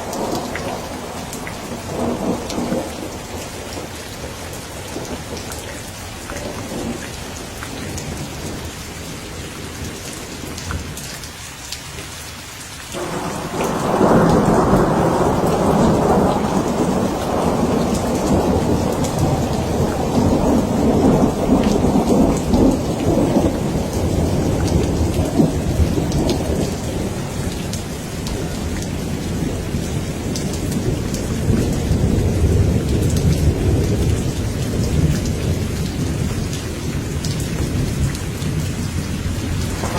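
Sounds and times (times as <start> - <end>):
thunder rumbling: 0.0 - 10.6, 13.0 - 39.9
steady rain: 0.0 - 39.9.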